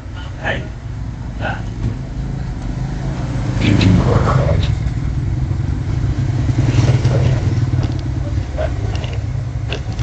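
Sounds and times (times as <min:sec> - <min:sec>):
engine running at low speed: 0:00.0 - 0:10.0.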